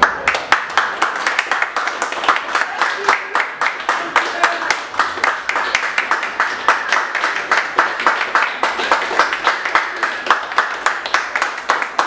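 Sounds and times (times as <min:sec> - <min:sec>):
audience applauding: 0:00.0 - 0:12.0
close rhythmic clapping: 0:00.0 - 0:12.0.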